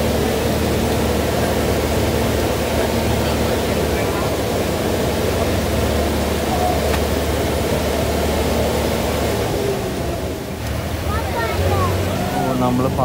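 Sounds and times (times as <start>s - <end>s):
bus diesel engine hum: 0.0s - 13.0s
passengers murmuring: 0.0s - 13.0s
road noise: 0.0s - 13.0s.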